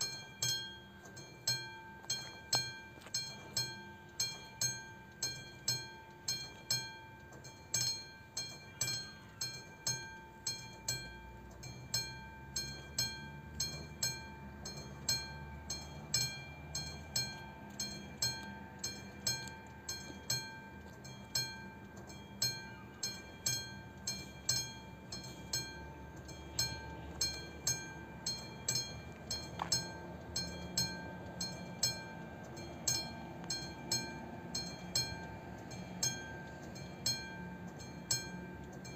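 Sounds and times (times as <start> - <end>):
level crossing warning bell: 0.0 - 38.9
low train rumble: 0.0 - 38.9.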